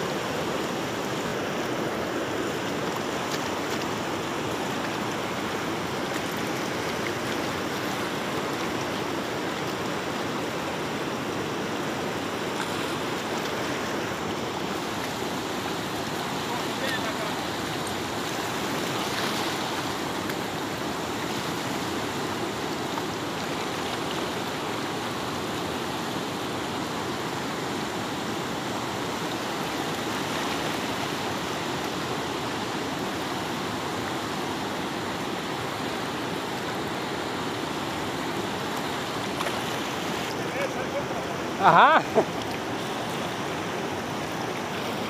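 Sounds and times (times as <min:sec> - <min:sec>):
river rushing over rocks: 0:00.0 - 0:45.0.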